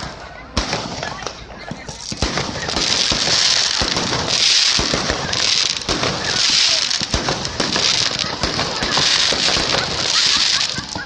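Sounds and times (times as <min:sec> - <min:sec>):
fireworks hissing spurts: 0:00.0 - 0:11.0
fireworks pops and crackles: 0:00.0 - 0:11.0.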